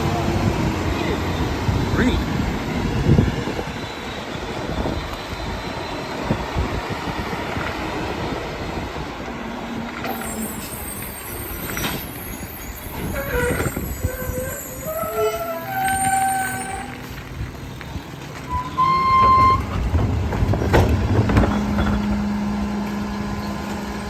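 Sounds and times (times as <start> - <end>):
garbage truck engine and compactor: 0.0 - 24.0.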